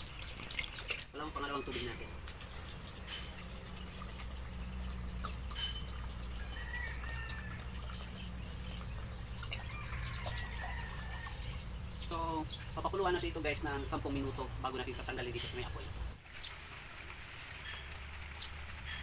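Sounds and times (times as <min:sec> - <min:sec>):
water pouring and splashing: 0:00.0 - 0:13.2, 0:16.2 - 0:19.0.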